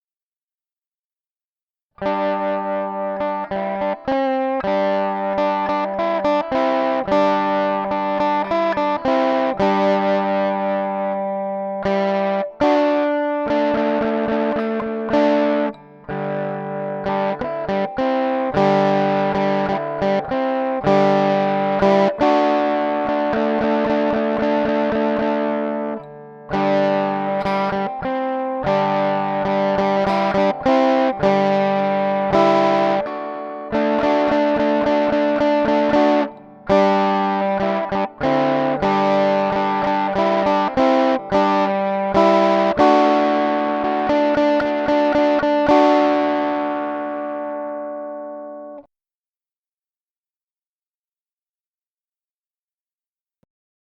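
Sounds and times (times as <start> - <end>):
electric guitar rock riff: 2.0 - 48.8.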